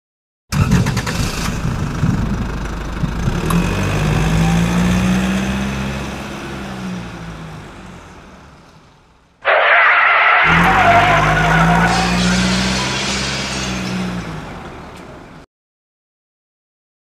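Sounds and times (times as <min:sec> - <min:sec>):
tractor engine running: 0:00.6 - 0:15.4.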